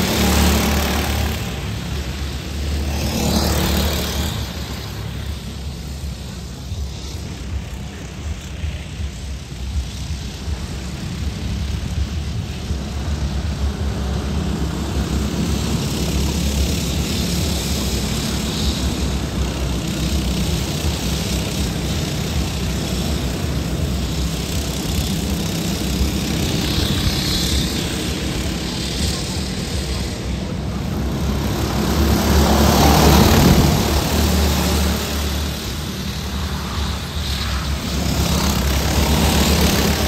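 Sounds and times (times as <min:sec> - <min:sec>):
go-kart engines buzzing: 0:00.0 - 0:40.0.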